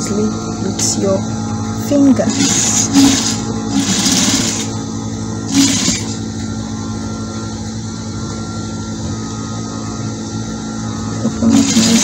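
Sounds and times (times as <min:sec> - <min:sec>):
sewing machine motor hum: 0:00.0 - 0:12.0.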